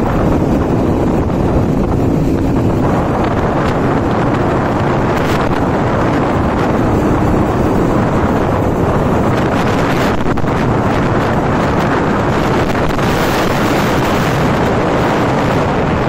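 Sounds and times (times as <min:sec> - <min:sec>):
motorcycle engine running: 0:00.0 - 0:16.0
wind rushing over microphone: 0:00.0 - 0:16.0.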